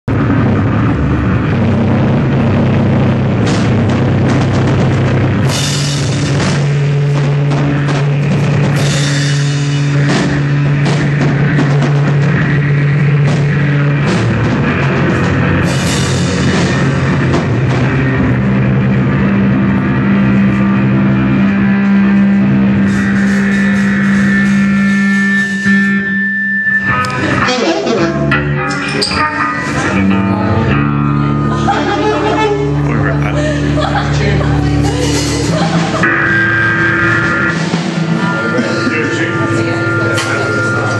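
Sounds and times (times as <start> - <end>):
electric guitar: 0.0 - 40.9
low droning notes: 0.0 - 40.9
drum kit with cymbal crashes: 0.1 - 26.1, 34.0 - 40.9.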